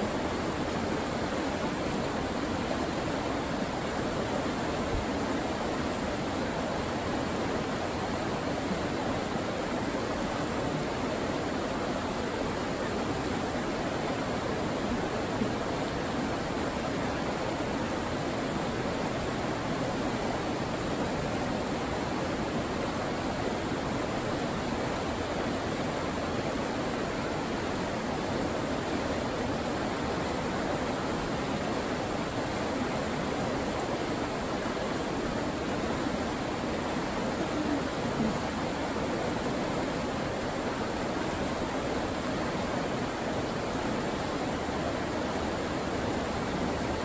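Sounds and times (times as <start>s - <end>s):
river rapids rushing: 0.0s - 47.0s.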